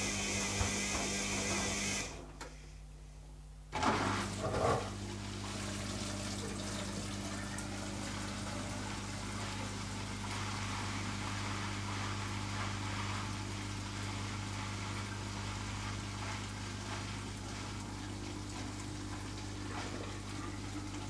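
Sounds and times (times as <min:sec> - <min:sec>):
water flowing in washing machine: 0:00.0 - 0:02.4, 0:03.7 - 0:21.0
electrical hum: 0:00.0 - 0:21.0.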